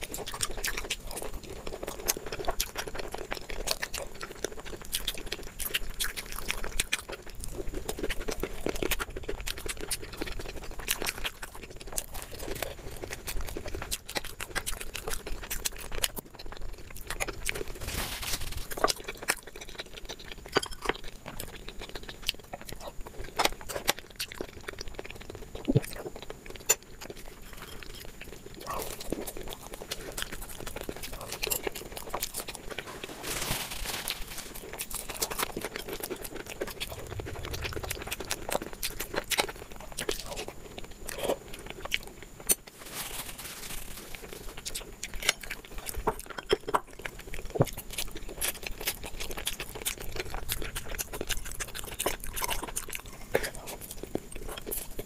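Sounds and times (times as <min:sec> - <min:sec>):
chewing and wet mouth sounds: 0:00.0 - 0:17.9, 0:18.6 - 0:33.2, 0:34.0 - 0:42.8, 0:43.9 - 0:55.0
food crunches: 0:00.0 - 0:55.0.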